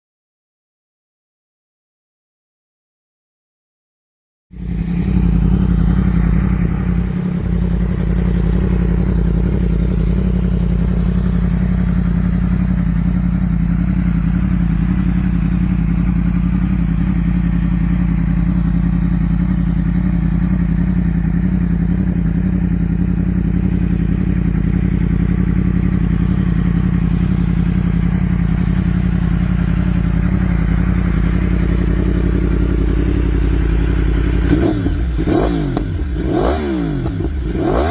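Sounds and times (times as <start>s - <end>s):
motorcycle engine idling: 4.6s - 37.9s.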